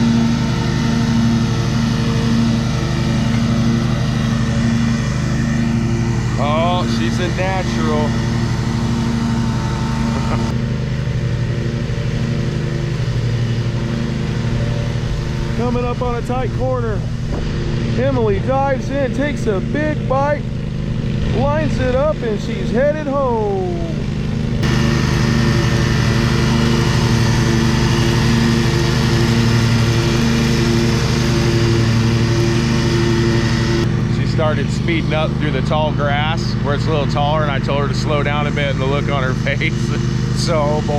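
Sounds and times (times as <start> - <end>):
riding lawn mower engine: 0.0 - 40.9.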